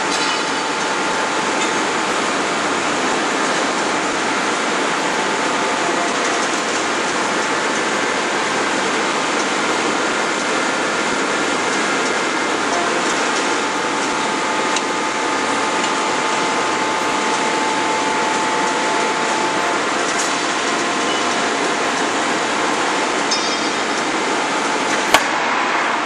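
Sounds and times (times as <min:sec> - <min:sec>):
hydraulic machinery hiss and hum: 0:00.0 - 0:26.0.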